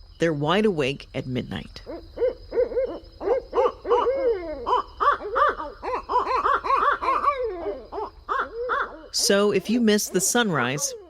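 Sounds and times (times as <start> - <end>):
owls hooting: 1.8 - 11.0.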